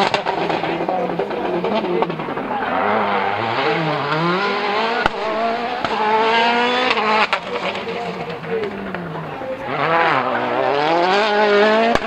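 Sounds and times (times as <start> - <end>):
rally car engine at full pace: 0.0 - 12.0.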